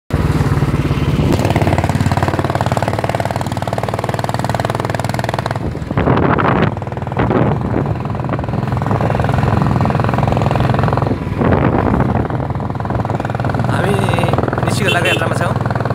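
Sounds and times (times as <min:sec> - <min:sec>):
motorcycle engine running: 0:00.1 - 0:15.9.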